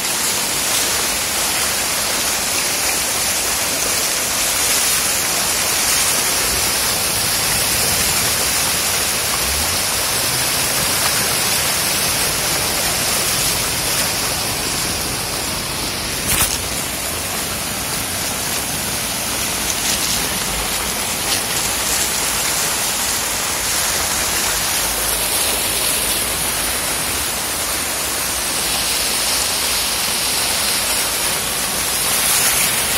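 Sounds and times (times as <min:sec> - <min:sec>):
floodwater rushing: 0:00.0 - 0:32.9
torrential rain: 0:00.0 - 0:32.9.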